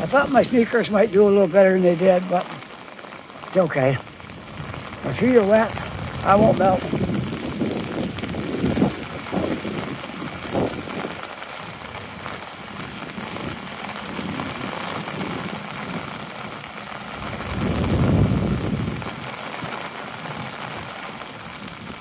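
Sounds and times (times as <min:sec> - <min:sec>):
rain on wet pavement: 0:00.0 - 0:22.0
rain pattering on umbrella: 0:00.0 - 0:22.0.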